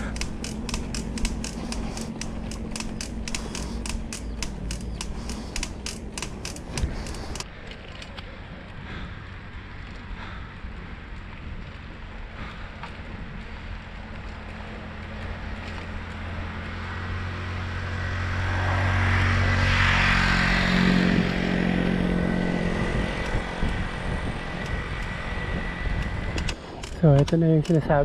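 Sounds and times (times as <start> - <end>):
motor vehicle passing: 0.0 - 26.9.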